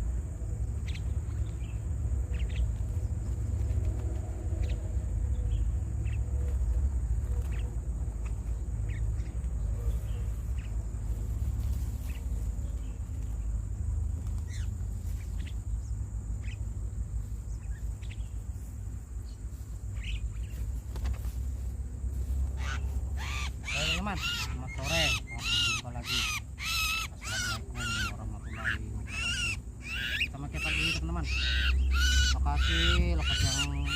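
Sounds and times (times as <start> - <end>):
birds chirping: 0.0 - 33.9
steady low rumble: 0.0 - 33.9.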